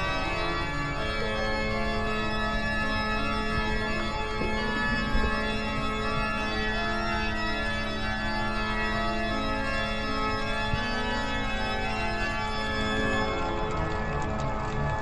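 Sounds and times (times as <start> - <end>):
organ sustained chords: 0.0 - 15.0.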